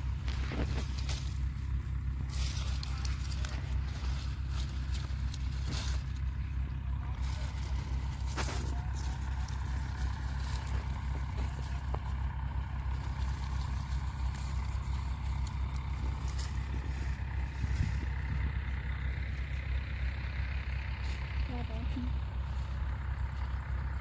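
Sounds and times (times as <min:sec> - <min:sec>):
engine running with low rumble: 0:00.0 - 0:24.0.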